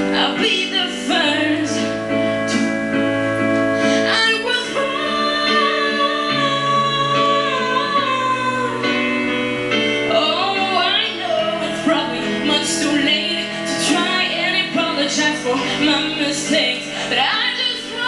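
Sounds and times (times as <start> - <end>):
woman singing: 0.0 - 2.8, 3.8 - 18.0
piano chords: 0.0 - 18.0.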